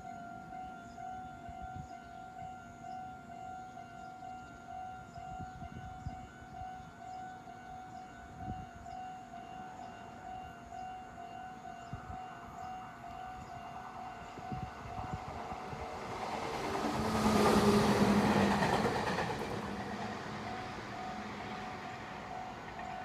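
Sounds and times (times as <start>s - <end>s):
approaching train noise: 4.2s - 23.0s.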